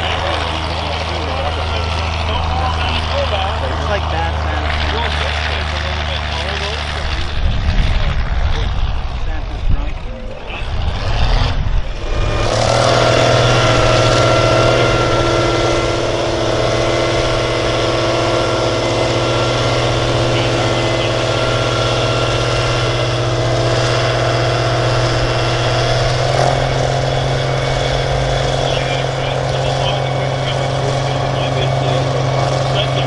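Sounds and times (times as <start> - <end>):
loud vehicle engine running: 0.0 - 33.0.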